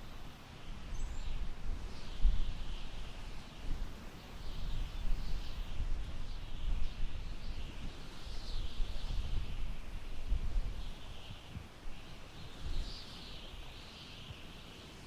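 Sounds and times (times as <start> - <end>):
wind through tall grass: 0.0 - 15.0.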